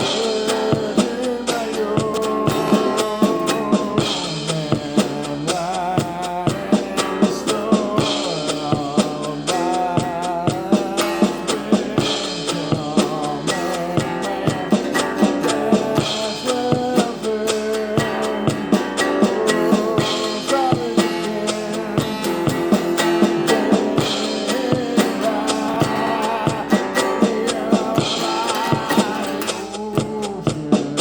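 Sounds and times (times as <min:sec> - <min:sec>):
drum kit beat: 0:00.0 - 0:31.0.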